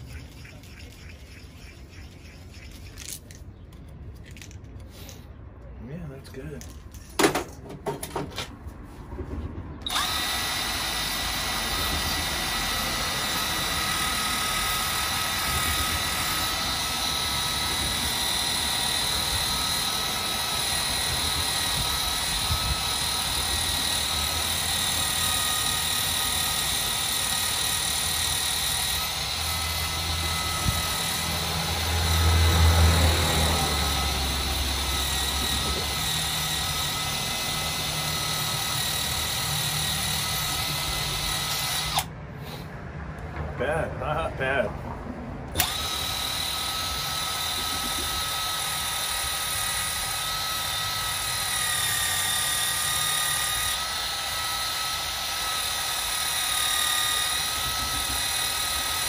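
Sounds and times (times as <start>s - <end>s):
machine whirring and whining: 9.1s - 43.6s, 45.4s - 59.0s.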